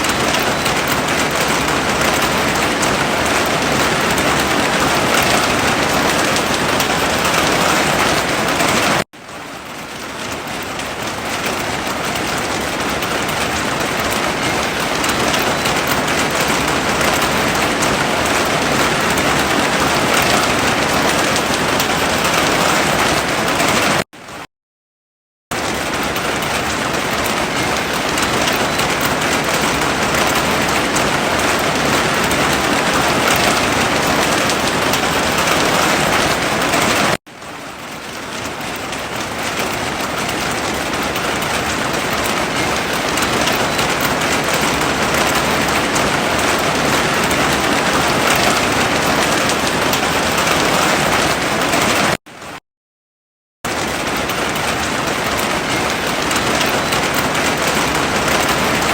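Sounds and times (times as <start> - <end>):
heavy rain: 0.0 - 24.0, 25.5 - 52.6, 53.7 - 58.9.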